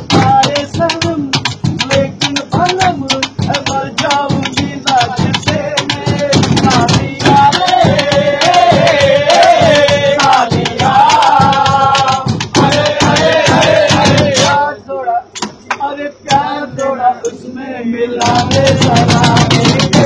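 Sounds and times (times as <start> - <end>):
men singing together: 0.0 - 20.0.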